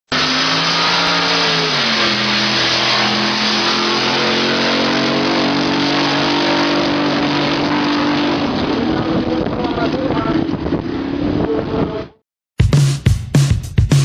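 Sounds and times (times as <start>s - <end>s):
loud engine running hard: 0.1s - 12.2s.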